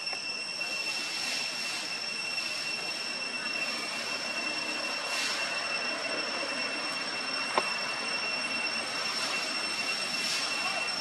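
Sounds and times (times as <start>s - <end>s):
ambient hiss: 0.0s - 11.0s
high-pitched insect drone: 0.0s - 11.0s.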